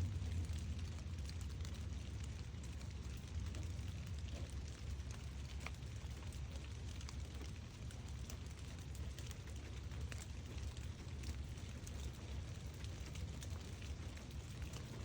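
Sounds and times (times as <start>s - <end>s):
rain falling: 0.0s - 15.0s
raindrops pattering on surfaces: 0.0s - 15.0s.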